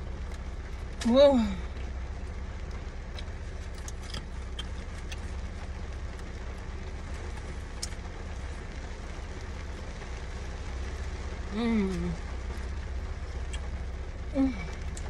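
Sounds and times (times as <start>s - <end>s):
car interior hum: 0.0s - 15.0s.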